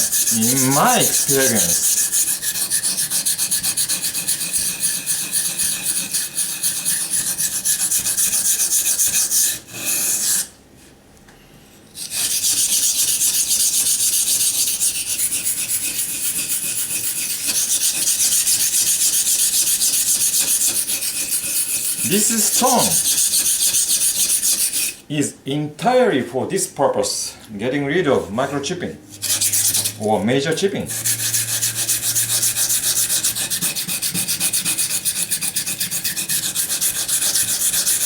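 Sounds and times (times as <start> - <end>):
knife scraping on whetstone: 0.0 - 10.5, 12.0 - 25.0, 29.1 - 30.0, 30.9 - 38.0.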